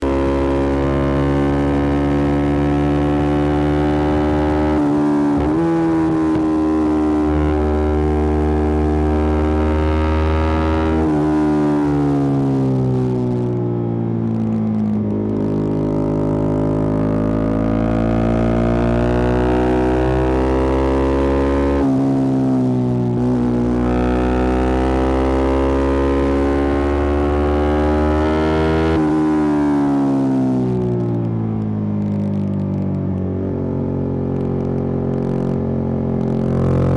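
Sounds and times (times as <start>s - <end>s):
motorcycle engine running: 0.0s - 29.2s, 29.8s - 36.9s.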